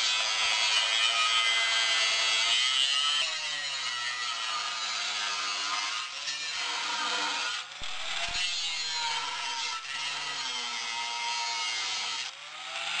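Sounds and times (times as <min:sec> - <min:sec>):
angle grinder cutting metal pipe: 0:00.0 - 0:13.0.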